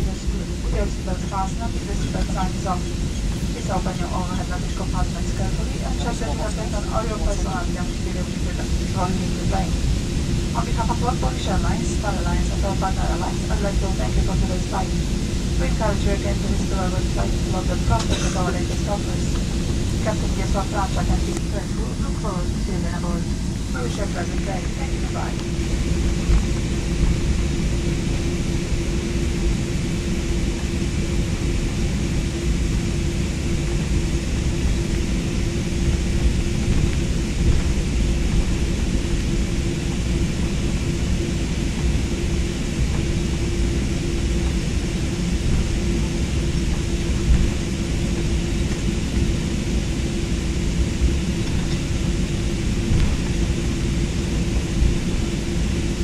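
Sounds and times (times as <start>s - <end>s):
airliner cabin rumble and hiss: 0.0s - 56.0s
constant hum: 0.0s - 56.0s.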